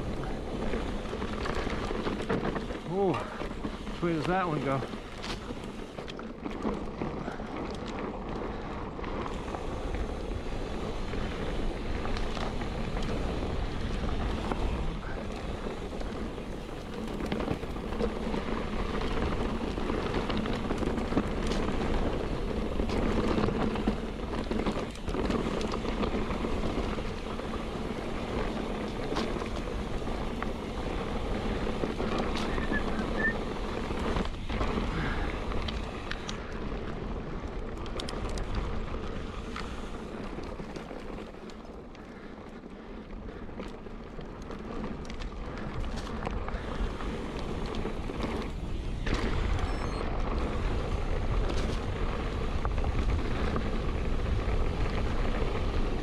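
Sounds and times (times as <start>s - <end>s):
bike tyre noise: 0.0s - 56.0s.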